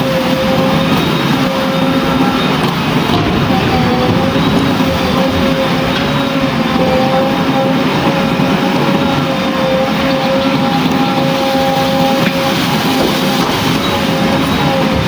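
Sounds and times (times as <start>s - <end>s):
diesel engine running: 0.0s - 15.0s
steady whine: 0.0s - 15.0s.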